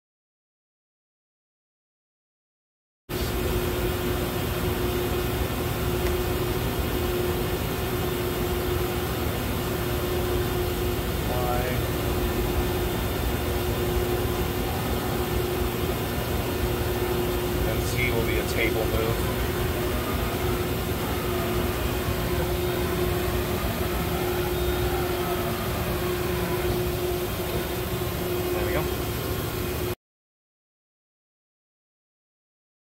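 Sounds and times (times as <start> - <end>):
machine humming: 3.1 - 30.0.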